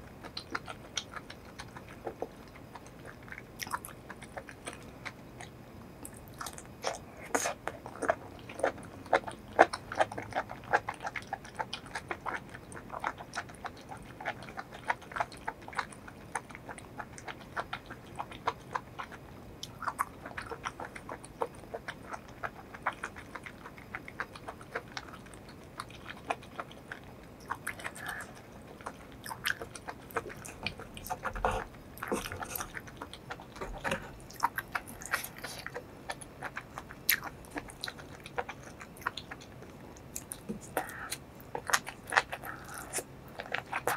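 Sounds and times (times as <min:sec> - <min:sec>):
chewing and biting food: 0:00.0 - 0:43.9.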